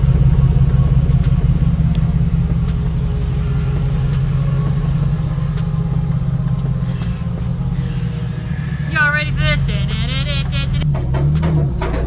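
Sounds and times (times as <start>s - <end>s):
engine idling with light ticking: 0.0s - 12.0s.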